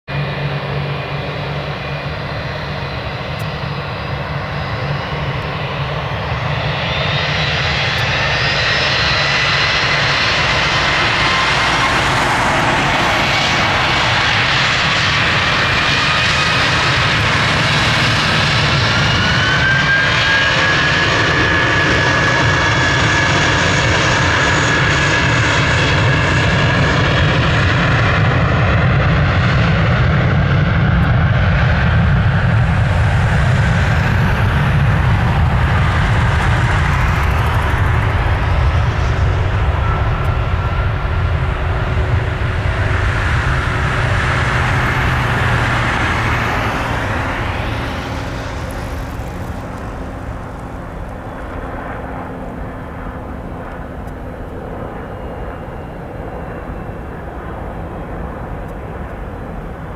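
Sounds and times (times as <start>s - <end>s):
jet engines roaring: 0.1s - 59.9s.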